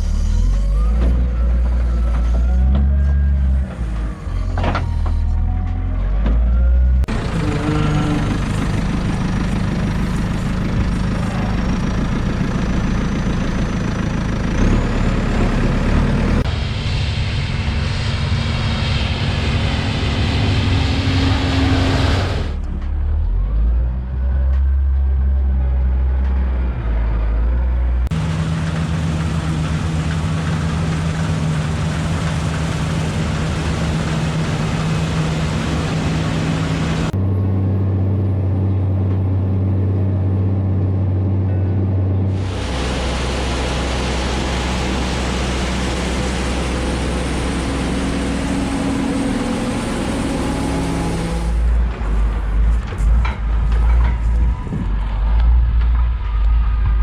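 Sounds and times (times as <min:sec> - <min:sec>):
heavy farm machinery engines: 0:00.0 - 0:57.0.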